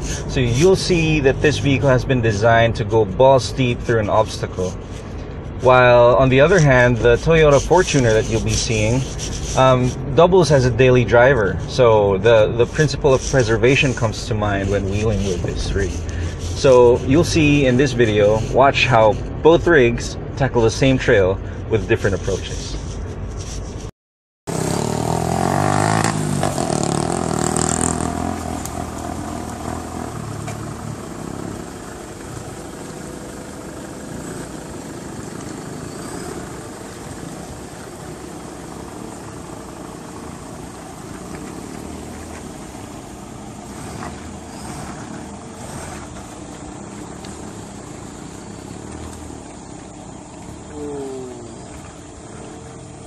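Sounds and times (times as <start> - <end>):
diesel engine crawling off-road: 0.0 - 23.8, 24.5 - 53.0.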